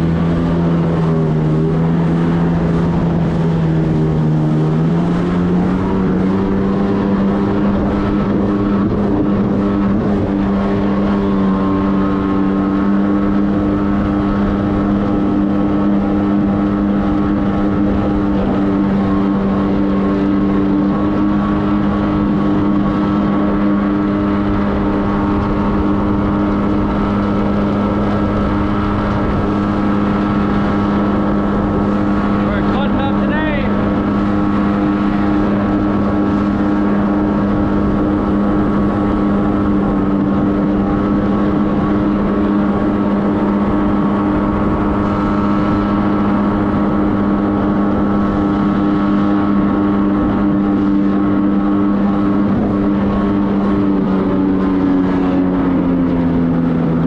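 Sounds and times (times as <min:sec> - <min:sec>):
jet ski engine running: 0:00.0 - 0:57.0.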